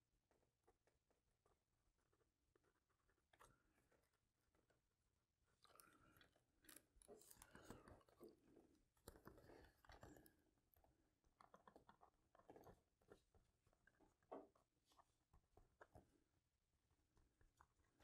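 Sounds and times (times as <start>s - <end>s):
faint rustles and small clicks: 0.0s - 18.0s.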